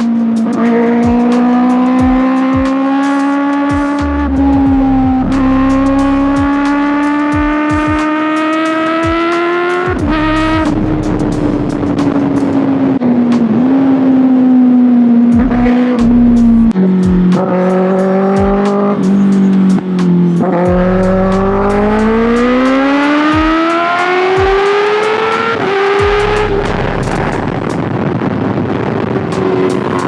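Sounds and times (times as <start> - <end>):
motorcycle engine accelerating: 0.0 - 30.0
wind rushing over microphone: 0.0 - 30.0.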